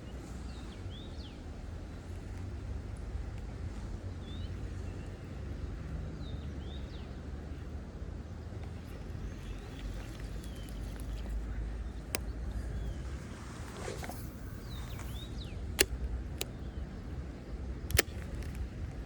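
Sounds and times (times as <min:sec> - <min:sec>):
small birds chirping: 0:00.0 - 0:03.1, 0:03.7 - 0:19.0
steady low rumble: 0:00.0 - 0:19.0.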